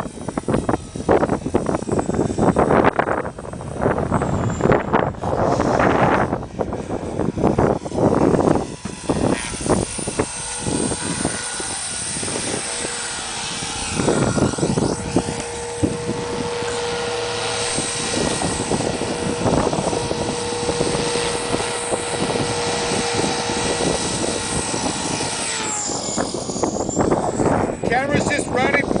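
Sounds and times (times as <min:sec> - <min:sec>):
rc helicopter high whine: 0:00.0 - 0:29.0
wind buffeting microphone: 0:00.0 - 0:29.0.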